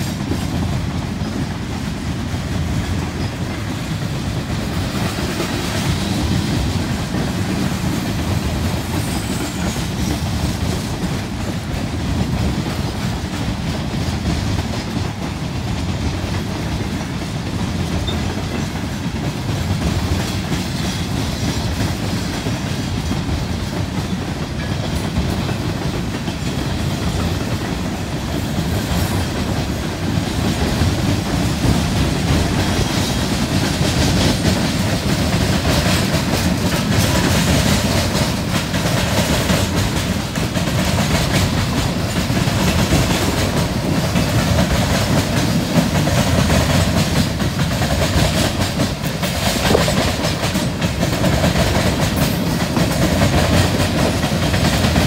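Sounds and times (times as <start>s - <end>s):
freight train cars clacking: 0.0s - 55.0s.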